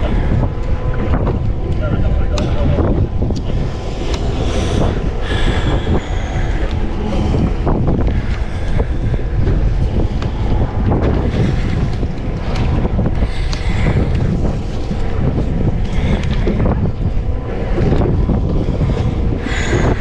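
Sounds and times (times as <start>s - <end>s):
water slapping against boat: 0.0s - 20.0s
wind rumbling on microphone: 0.0s - 20.0s.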